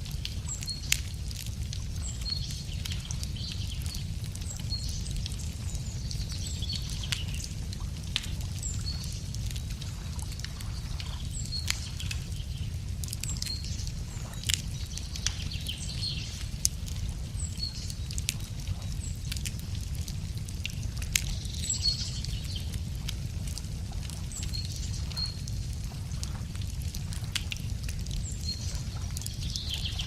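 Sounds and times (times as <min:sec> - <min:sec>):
small birds chirping: 0:00.0 - 0:30.0
wood fire crackling: 0:00.0 - 0:30.0.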